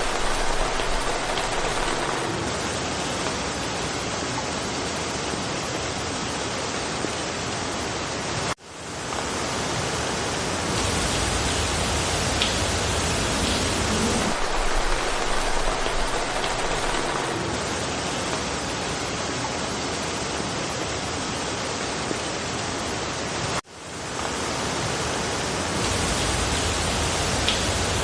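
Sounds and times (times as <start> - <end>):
rain falling through foliage: 0.0 - 28.0.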